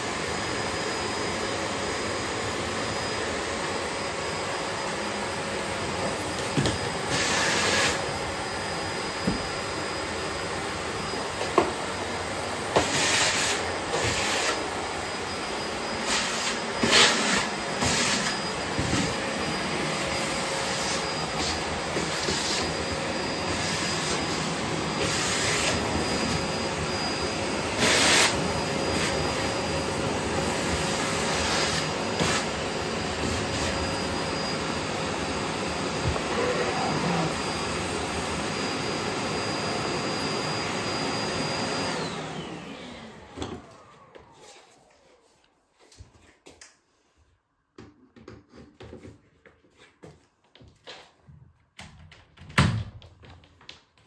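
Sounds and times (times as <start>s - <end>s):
vacuum cleaner whine: 0.0s - 46.0s.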